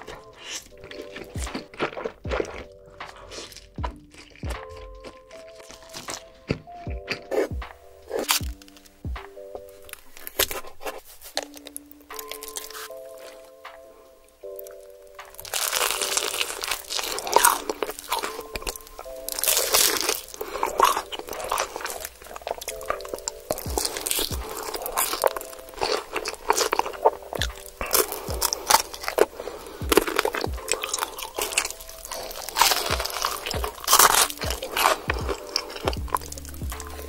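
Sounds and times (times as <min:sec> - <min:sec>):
crunching bites: 0:00.0 - 0:13.8, 0:14.4 - 0:37.0
chewing: 0:00.0 - 0:37.0.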